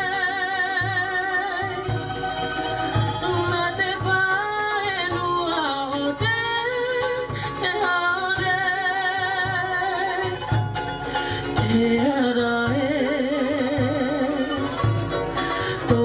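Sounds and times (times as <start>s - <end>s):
woman singing with vibrato: 0.0s - 2.2s, 3.2s - 10.4s, 11.2s - 16.0s
strummed ukuleles: 0.0s - 16.0s.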